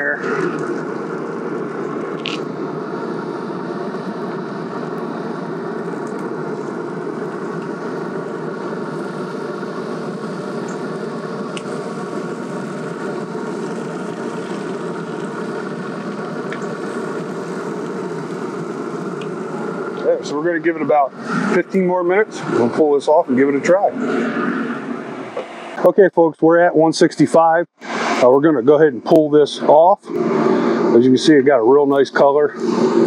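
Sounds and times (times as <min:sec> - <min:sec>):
pellet grill fan whirring: 0:00.0 - 0:33.0.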